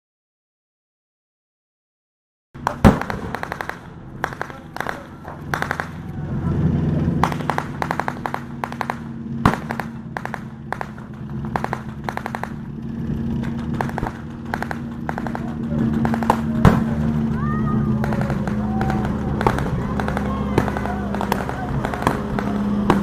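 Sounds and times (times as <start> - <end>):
automatic gunfire: 2.6 - 6.4, 7.2 - 23.0
loud bang: 2.6 - 23.0
tank engine humming: 2.6 - 23.0.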